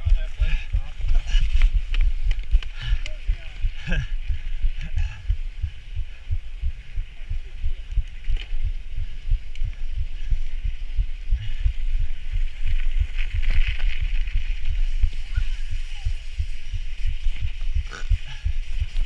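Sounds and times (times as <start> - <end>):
bike riding jolts: 0.0 - 19.0
steady hiss: 0.0 - 19.0
wind buffeting microphone: 0.0 - 19.0.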